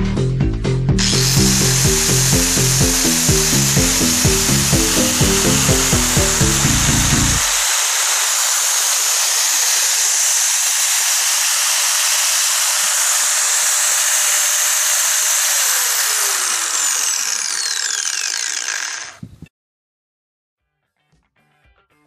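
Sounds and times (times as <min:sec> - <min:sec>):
disc grinder whirring: 0:01.0 - 0:19.3.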